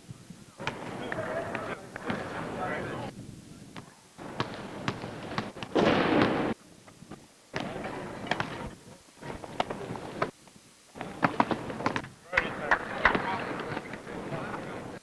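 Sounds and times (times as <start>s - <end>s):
gym noise: 0.5s - 3.1s, 3.7s - 6.6s, 7.5s - 10.3s, 11.0s - 15.0s.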